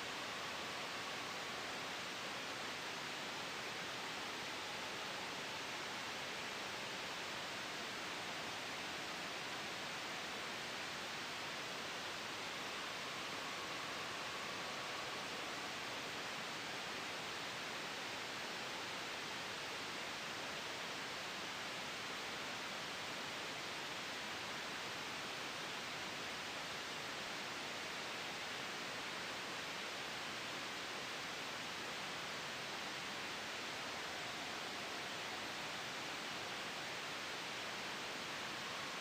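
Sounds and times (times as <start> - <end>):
gentle wind: 0.0 - 39.0
white noise hiss: 0.0 - 39.0.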